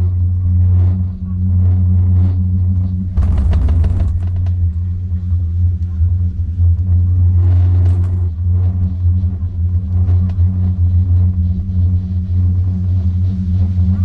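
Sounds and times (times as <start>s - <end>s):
chairlift rumble and hum: 0.0s - 14.0s.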